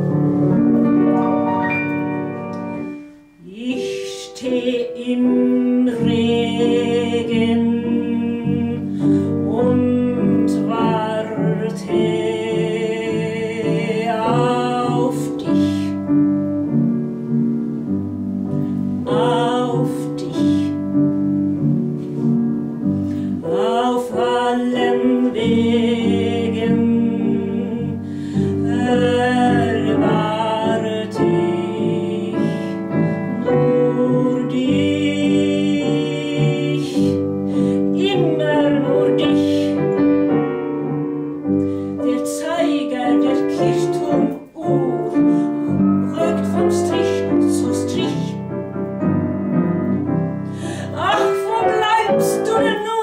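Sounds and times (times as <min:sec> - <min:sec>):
grand piano accompaniment: 0:00.0 - 0:53.0
woman singing: 0:02.8 - 0:16.8, 0:18.8 - 0:21.6, 0:22.9 - 0:40.5, 0:41.4 - 0:49.2, 0:50.5 - 0:53.0.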